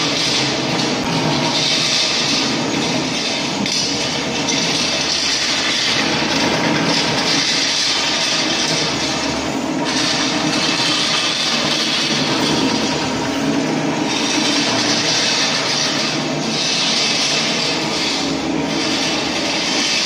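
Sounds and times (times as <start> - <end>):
floor grinding machine: 0.0 - 20.0.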